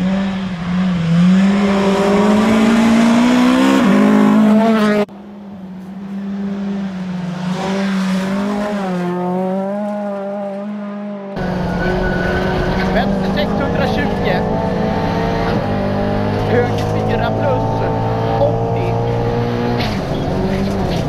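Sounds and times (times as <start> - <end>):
car engine at high revs: 0.0 - 5.2, 5.8 - 21.0.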